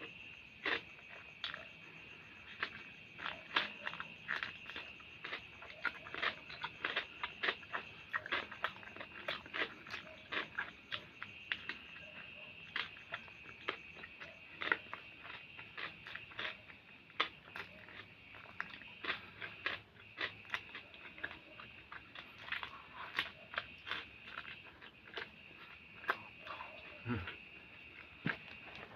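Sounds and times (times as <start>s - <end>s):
chewing and biting food: 0.0s - 28.9s.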